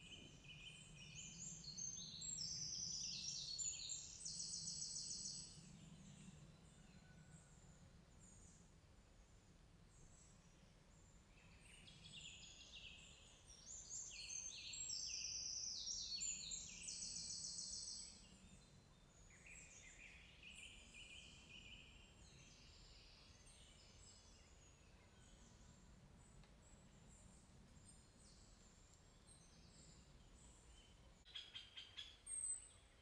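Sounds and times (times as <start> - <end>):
faint low background noise: 0.0 - 33.0.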